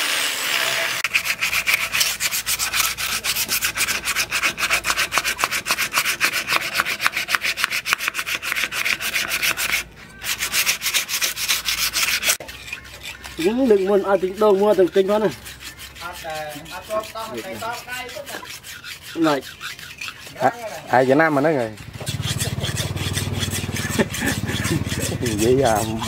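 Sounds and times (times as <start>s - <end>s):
sandpaper rubbing on wood: 0.1s - 26.0s.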